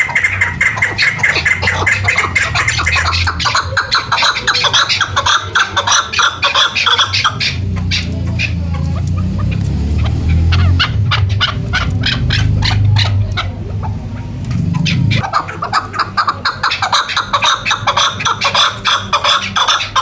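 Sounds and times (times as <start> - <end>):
partridge chattering call: 0.0 - 20.0.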